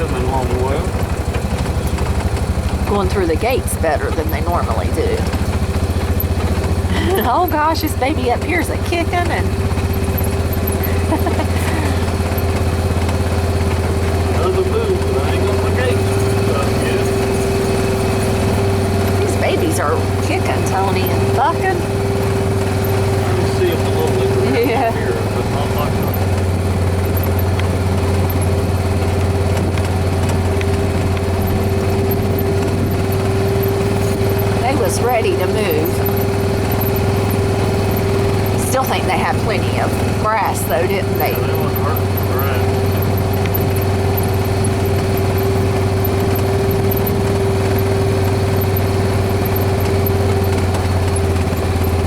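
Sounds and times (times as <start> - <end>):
constant tone: 0.0 - 52.0
vehicle engine humming: 0.0 - 52.0.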